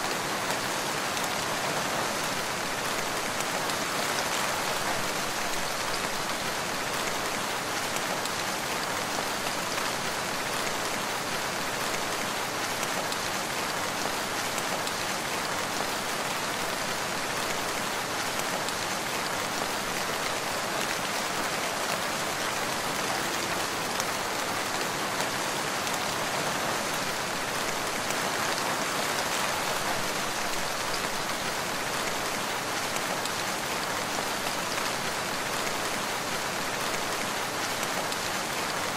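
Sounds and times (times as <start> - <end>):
rain pattering in a forest: 0.0 - 38.9.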